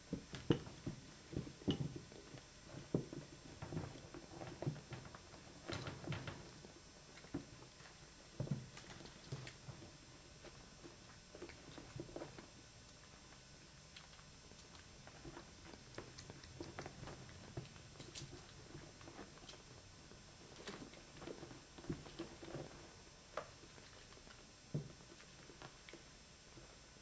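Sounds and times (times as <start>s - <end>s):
rabbits scuffling on blanket: 0.7s - 27.0s.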